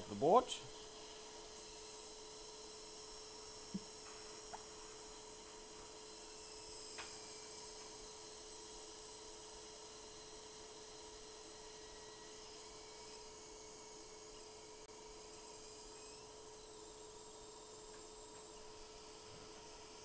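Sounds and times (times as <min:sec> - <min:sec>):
electrical hum with high whine: 0:00.0 - 0:20.0.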